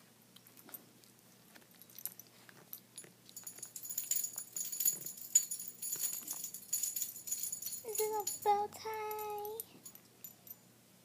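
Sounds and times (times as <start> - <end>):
dog collar tags jingling: 1.8 - 10.7.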